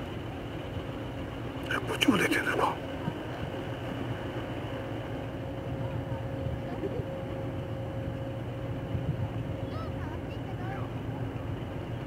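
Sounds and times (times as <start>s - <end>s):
faint steady hum: 0.0s - 12.0s
ship engines droning: 0.0s - 12.0s.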